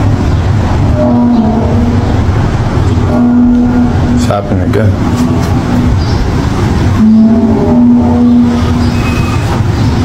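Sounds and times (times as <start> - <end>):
droning hum from the sky: 0.0 - 10.0.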